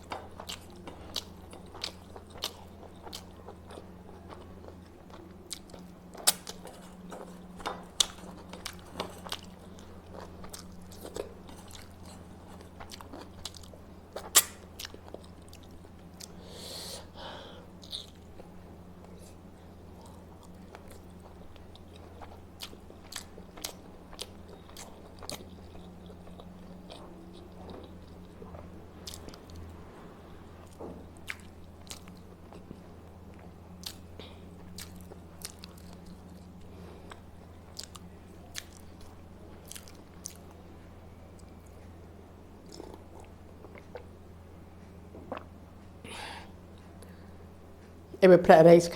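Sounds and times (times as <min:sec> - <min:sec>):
person chewing and biting: 0:00.0 - 0:16.4, 0:17.8 - 0:29.7, 0:30.6 - 0:40.6, 0:42.6 - 0:44.2, 0:45.2 - 0:45.6
steady low hum: 0:00.0 - 0:48.9.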